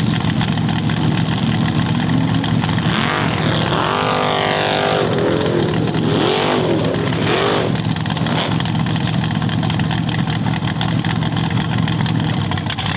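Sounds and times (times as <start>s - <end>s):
car engine revving hard: 0.0s - 11.2s.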